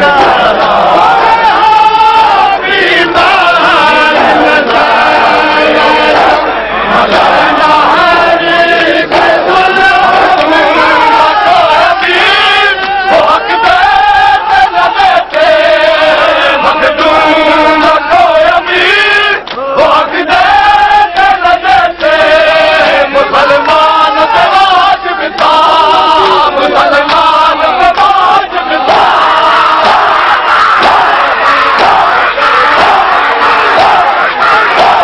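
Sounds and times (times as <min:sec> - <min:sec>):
men chanting a lament: 0:00.0 - 0:35.0.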